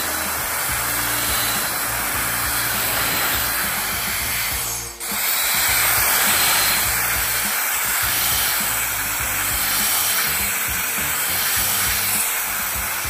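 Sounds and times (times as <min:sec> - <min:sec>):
electric air duster blowing: 0:00.0 - 0:13.0.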